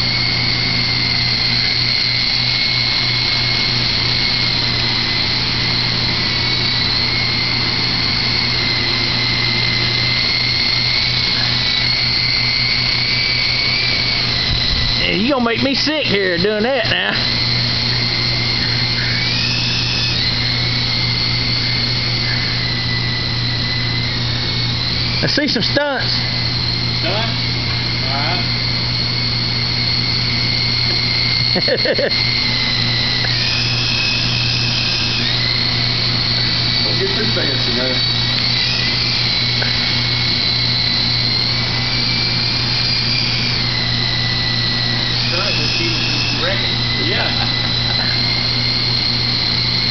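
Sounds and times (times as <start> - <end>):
rc helicopter motors whining: 0.0 - 49.9.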